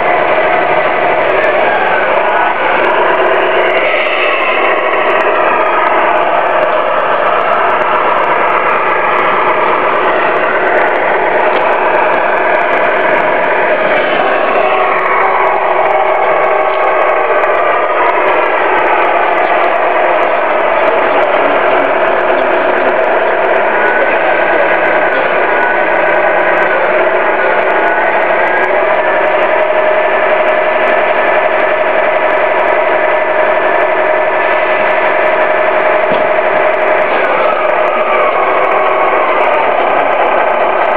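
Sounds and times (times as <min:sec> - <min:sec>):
model trucks humming: 0:00.0 - 0:40.9.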